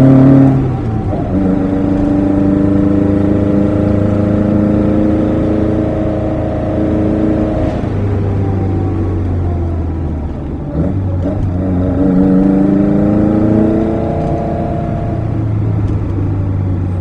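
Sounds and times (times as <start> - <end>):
car engine cruising: 0.0 - 17.0.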